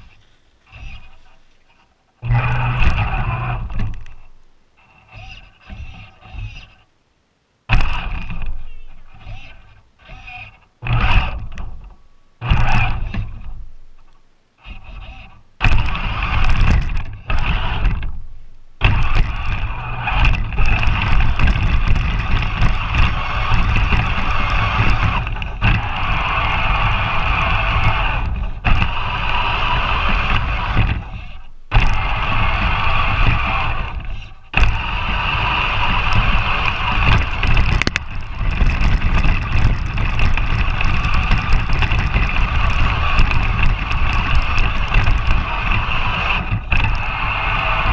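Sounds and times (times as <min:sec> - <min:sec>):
toy truck electric motor whining: 0:02.2 - 0:04.2, 0:04.8 - 0:06.8, 0:07.8 - 0:11.7, 0:12.4 - 0:13.5, 0:14.7 - 0:18.1, 0:18.8 - 0:47.9.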